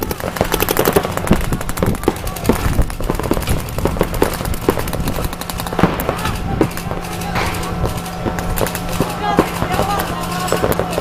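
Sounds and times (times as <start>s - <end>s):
sharp cracks and pops: 0.0s - 11.0s
steady low hum: 0.0s - 11.0s.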